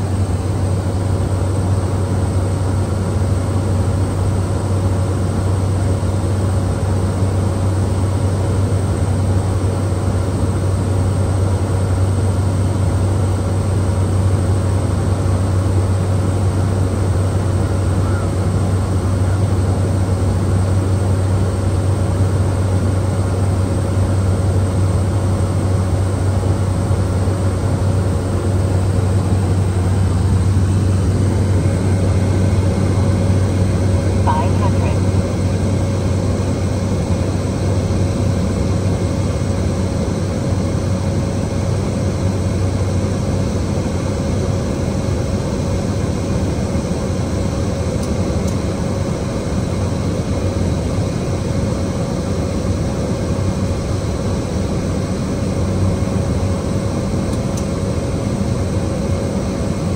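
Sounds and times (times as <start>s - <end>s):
turboprop engine drone: 0.0s - 59.9s.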